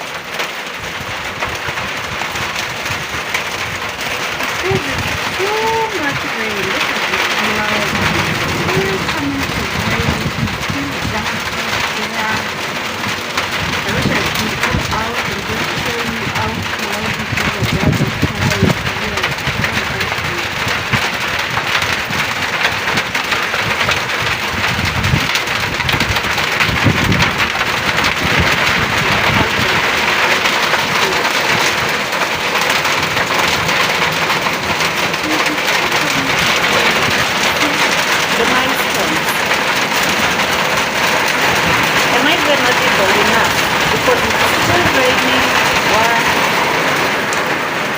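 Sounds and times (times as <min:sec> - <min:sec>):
heavy rain pouring: 0:00.0 - 0:47.9
low rumbles: 0:00.0 - 0:47.9.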